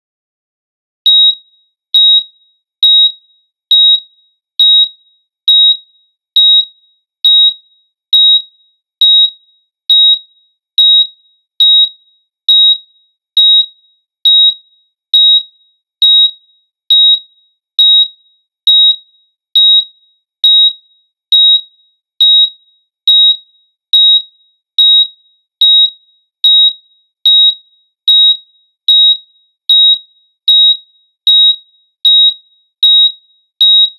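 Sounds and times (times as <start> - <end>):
heart monitor beeping: 1.1 - 17.2, 18.7 - 33.9.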